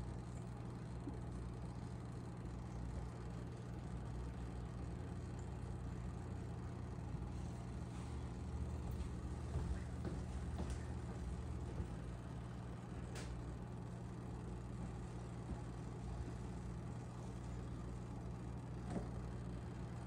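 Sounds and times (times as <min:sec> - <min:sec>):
aquarium equipment humming: 0:00.0 - 0:20.0.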